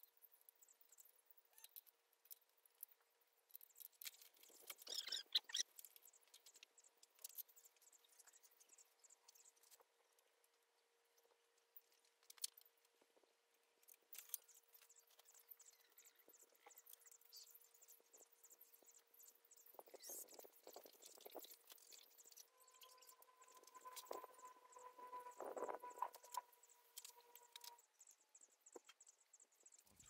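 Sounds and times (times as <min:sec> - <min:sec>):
small parts clicking and rattling: 0:00.0 - 0:10.6, 0:11.2 - 0:30.0
faint steady hum: 0:00.0 - 0:30.0.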